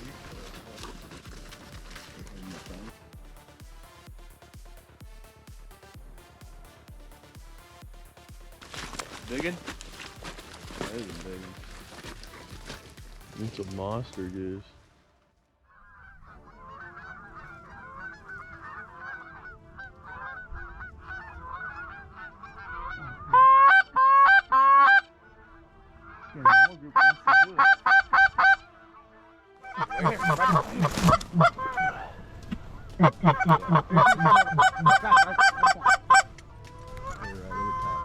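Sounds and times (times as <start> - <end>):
geese honking: 0.0 - 4.5, 7.3 - 14.7, 15.6 - 38.0.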